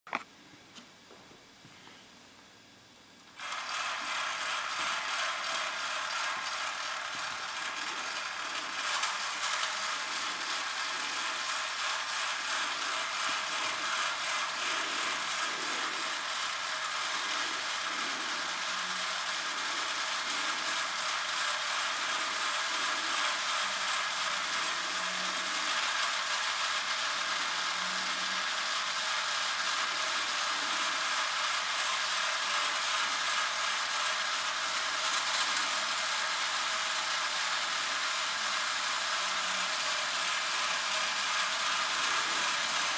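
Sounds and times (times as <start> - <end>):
higher whir: 3.3 - 42.9
toy motor and gears whirring: 3.3 - 42.9.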